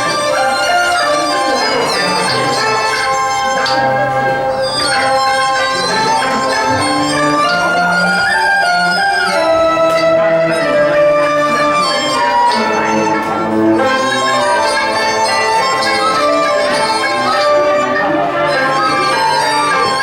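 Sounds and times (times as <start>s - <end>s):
bowed fiddles: 0.0s - 20.0s
reedy wind instrument: 0.0s - 20.0s.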